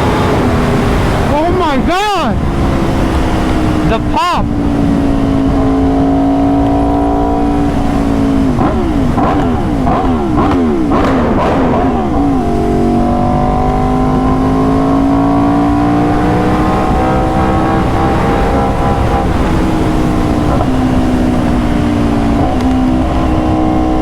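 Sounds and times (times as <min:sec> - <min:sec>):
exhaust cracks: 0:00.0 - 0:24.0
motorcycle engine revving: 0:00.0 - 0:24.0.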